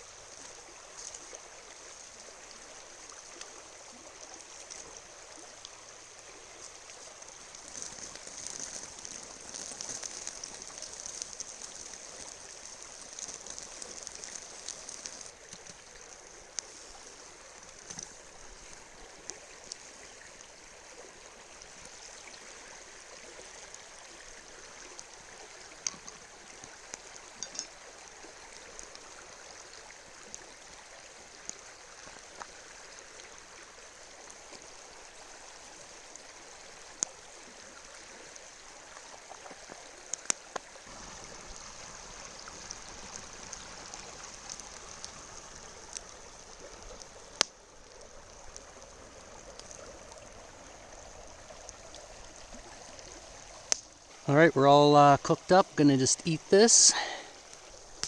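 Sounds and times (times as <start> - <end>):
river flowing: 0.0 - 58.0
campfire crackling and popping: 0.2 - 58.0.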